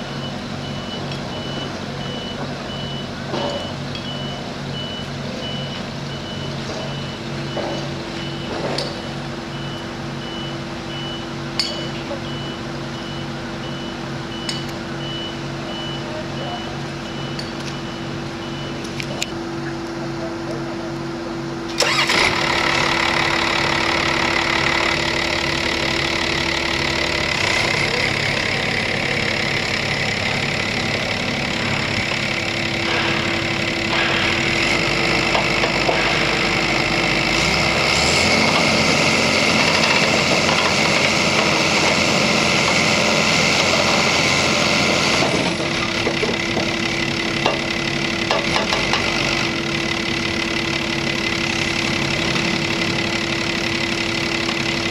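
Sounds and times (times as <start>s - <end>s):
drill rig diesel engine running: 0.0s - 54.9s.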